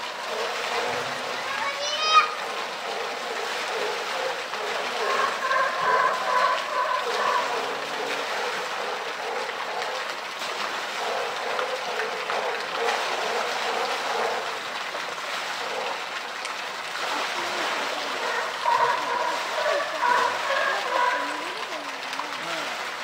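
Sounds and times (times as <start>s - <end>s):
steady wash of moving water: 0.0s - 23.0s
water sloshing and splashing: 0.0s - 23.0s.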